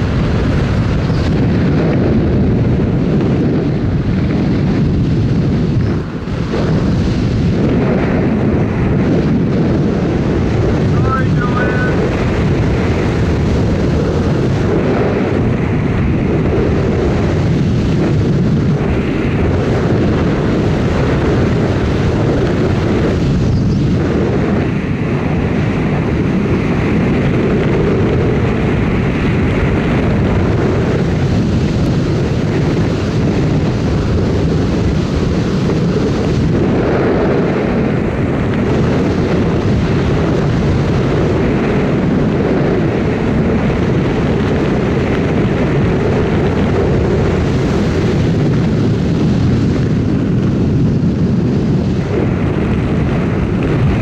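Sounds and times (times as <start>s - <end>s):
plane engine and propeller drone: 0.0s - 54.0s.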